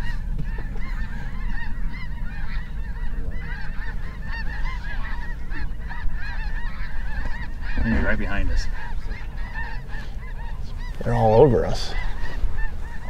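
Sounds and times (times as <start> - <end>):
geese calling: 0.0 - 13.0.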